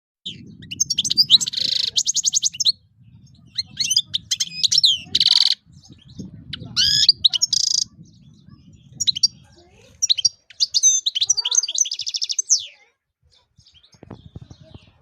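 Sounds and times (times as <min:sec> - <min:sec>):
goldfinch twittering song: 0:00.2 - 0:15.0.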